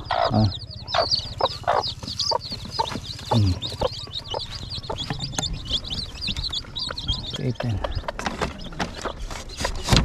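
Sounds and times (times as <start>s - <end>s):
hen clucking: 0.0s - 9.9s
chicks peeping: 0.0s - 10.0s.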